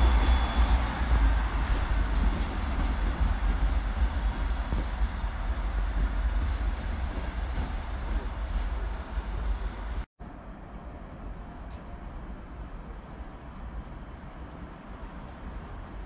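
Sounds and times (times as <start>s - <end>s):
diesel train engine rumbling: 0.0s - 16.0s.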